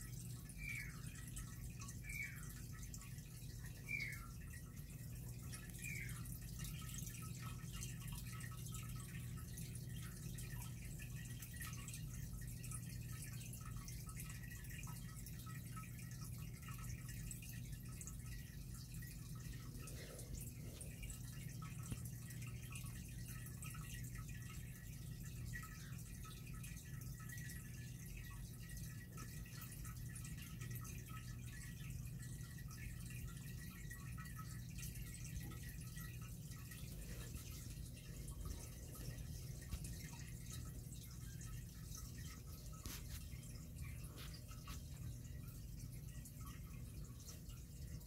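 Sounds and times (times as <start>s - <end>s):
aquarium water bubbling: 0.0s - 48.0s
steady low hum: 0.0s - 48.0s.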